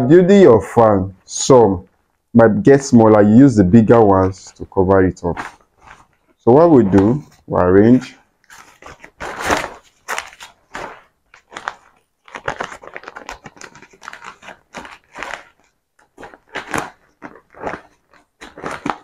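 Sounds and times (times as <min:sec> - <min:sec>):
stiff fabric crinkling: 0:03.7 - 0:19.0.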